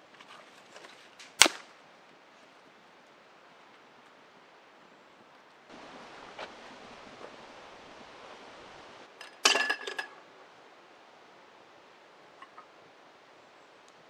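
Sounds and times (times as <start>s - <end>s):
soft outdoor hiss: 0.0s - 14.0s.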